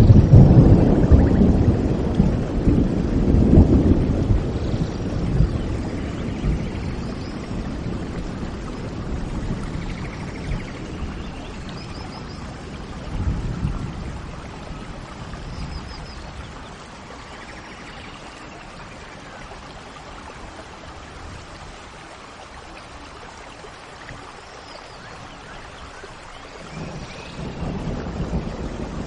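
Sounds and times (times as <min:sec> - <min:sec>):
low rumble of thunder: 0:00.0 - 0:22.6, 0:24.1 - 0:29.0
steady rain: 0:00.0 - 0:29.0.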